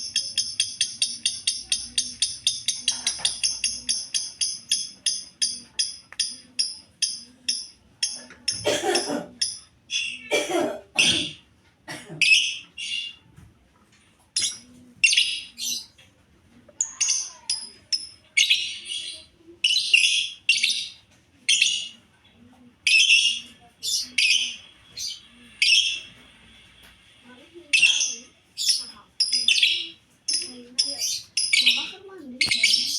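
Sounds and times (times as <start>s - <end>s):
lovebirds chirping and chattering: 0.0s - 11.6s, 12.2s - 13.4s, 14.2s - 32.9s.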